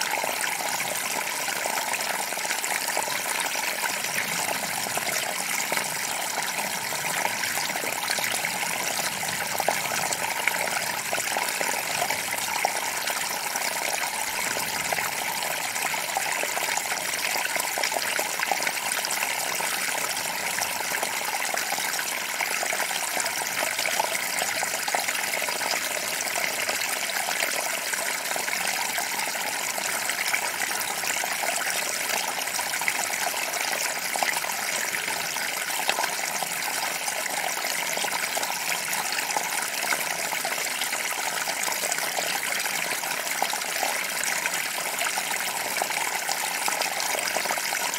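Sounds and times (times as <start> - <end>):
creek running over rocks: 0.0 - 47.9.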